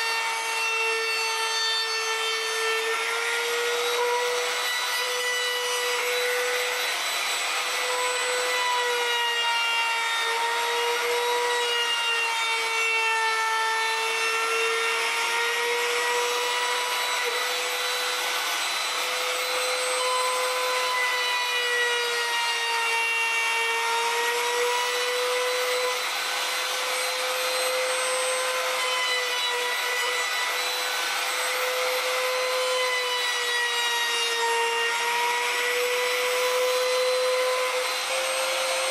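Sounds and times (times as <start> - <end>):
router motor whine: 0.0 - 38.9.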